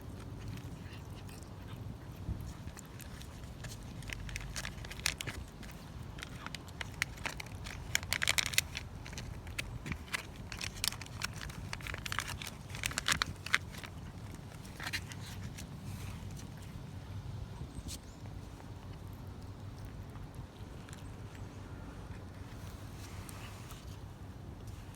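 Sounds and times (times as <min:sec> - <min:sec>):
cat chewing crunchy treats: 0:00.0 - 0:17.0, 0:18.1 - 0:24.9.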